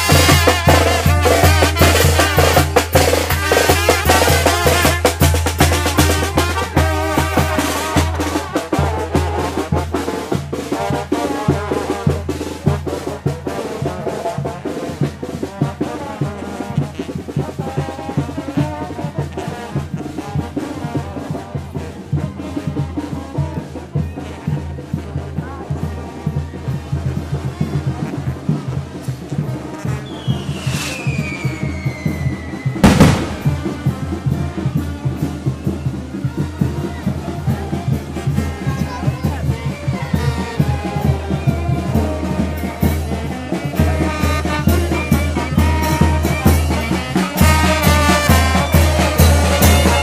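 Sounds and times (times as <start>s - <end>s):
brass band playing: 0.0s - 25.6s, 27.4s - 50.0s
bass and snare drum beat: 0.0s - 50.0s.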